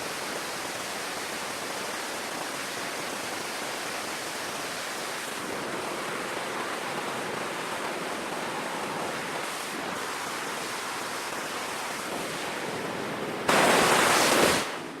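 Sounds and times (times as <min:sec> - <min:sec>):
heavy seas rushing: 0:00.0 - 0:15.0
wind: 0:00.0 - 0:15.0.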